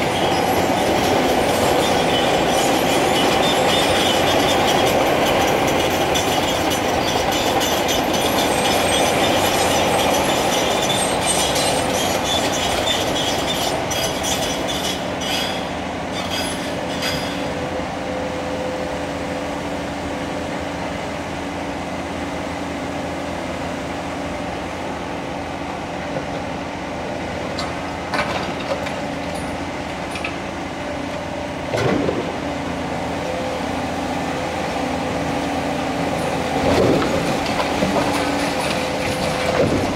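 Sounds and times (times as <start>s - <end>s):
diesel excavator engine: 0.0s - 39.9s.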